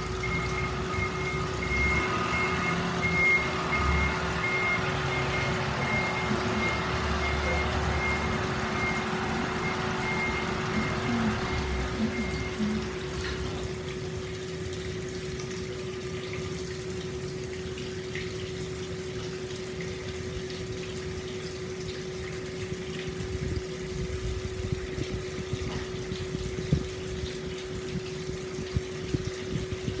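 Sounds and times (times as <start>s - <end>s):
water pouring into a stone bath: 0.0s - 30.0s
water splashes and drips: 0.0s - 30.0s.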